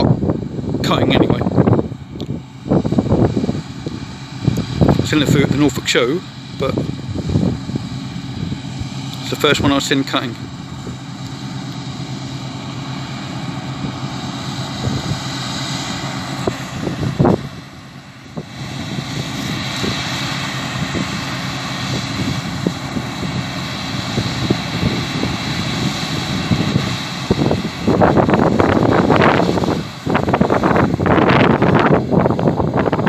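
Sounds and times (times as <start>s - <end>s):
combine harvester droning: 0.0s - 33.0s
wind buffeting microphone: 0.0s - 33.0s.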